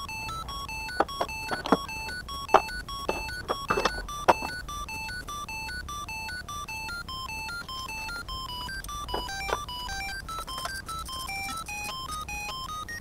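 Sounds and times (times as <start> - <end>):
electronic music with beeping notes: 0.0 - 13.0.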